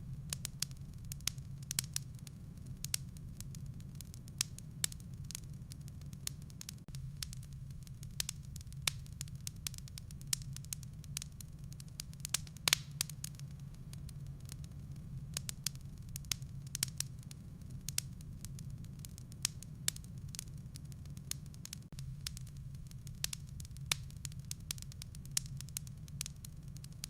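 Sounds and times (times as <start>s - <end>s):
fire crackling and popping: 0.0s - 27.0s
fire low rumble: 0.0s - 27.0s.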